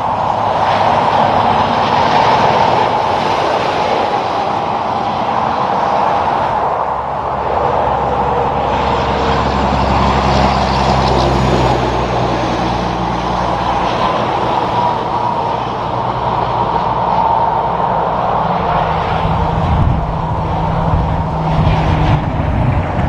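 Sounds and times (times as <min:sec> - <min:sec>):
steady traffic noise: 0:00.0 - 0:23.0
truck diesel engine passing: 0:00.0 - 0:23.0.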